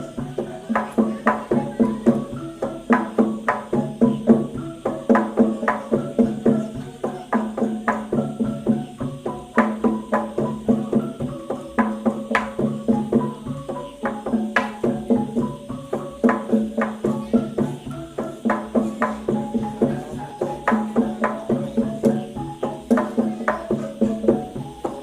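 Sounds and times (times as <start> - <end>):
drum strokes: 0.0 - 25.0
pitched percussion notes: 0.0 - 25.0.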